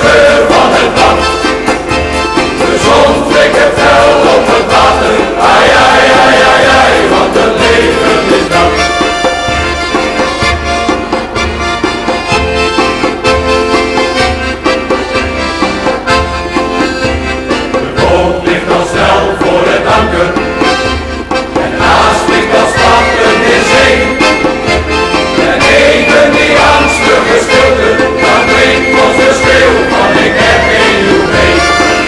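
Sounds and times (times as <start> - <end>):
accordion music: 0.0 - 32.0.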